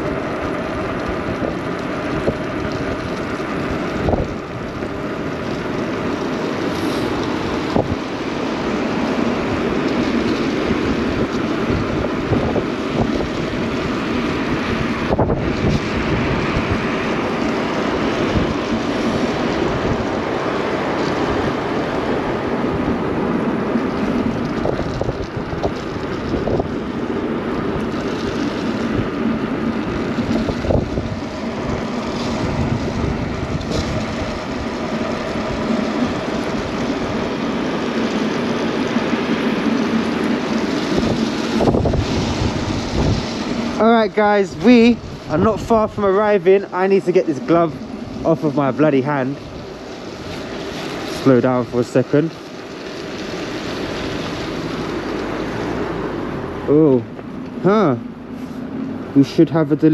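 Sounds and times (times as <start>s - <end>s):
tyre noise on wet road: 0.0s - 59.9s
wind rush on microphone: 0.0s - 59.9s.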